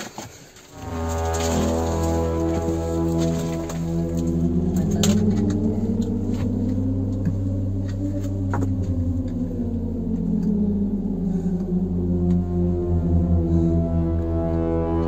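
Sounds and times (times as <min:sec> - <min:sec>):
ambient drone music: 0:00.7 - 0:15.0.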